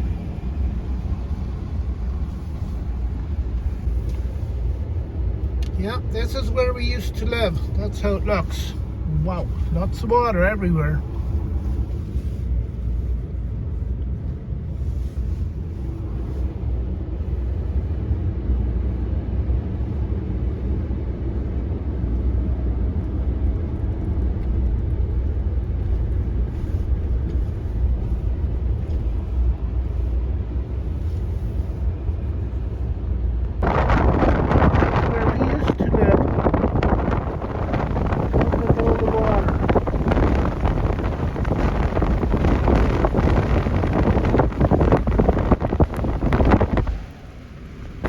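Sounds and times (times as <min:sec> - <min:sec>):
car interior road rumble: 0:00.0 - 0:48.0.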